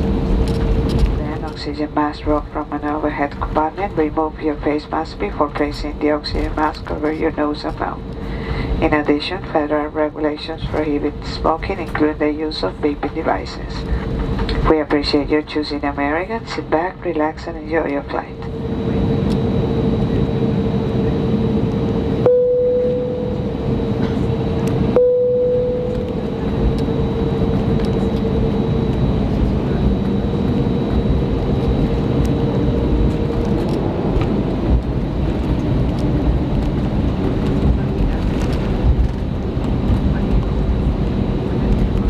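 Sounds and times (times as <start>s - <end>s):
airplane cabin rumble: 0.0s - 42.0s
steady hum: 0.0s - 42.0s.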